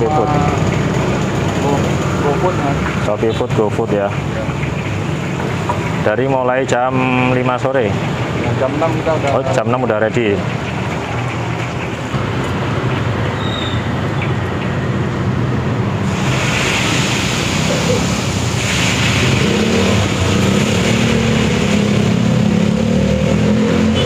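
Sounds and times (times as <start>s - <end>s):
hot oil sizzling in a wok: 0.0s - 13.1s, 16.0s - 23.3s
road traffic engines humming: 0.0s - 24.0s.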